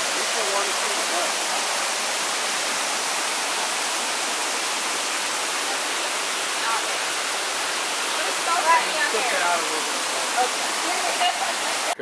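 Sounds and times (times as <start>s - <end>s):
stream water over rocks: 0.0s - 12.0s.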